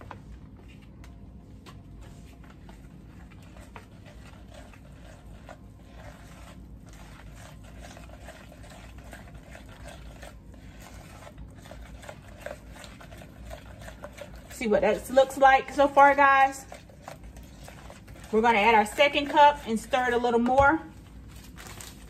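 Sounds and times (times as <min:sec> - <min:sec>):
utensil scraping a bowl: 0:02.5 - 0:20.6.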